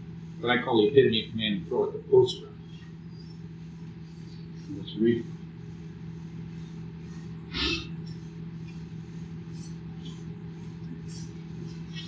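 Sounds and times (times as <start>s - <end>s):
cassette hum and hiss: 0.0s - 12.0s.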